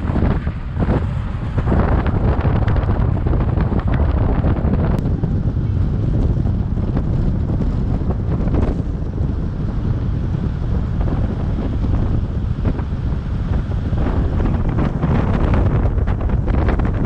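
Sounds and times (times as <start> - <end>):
moving car rumble: 0.0 - 17.0
wind buffeting microphone: 0.0 - 17.0.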